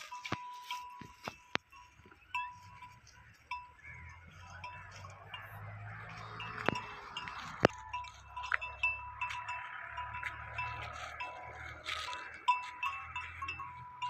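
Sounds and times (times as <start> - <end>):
small bells ringing: 0.0 - 14.0.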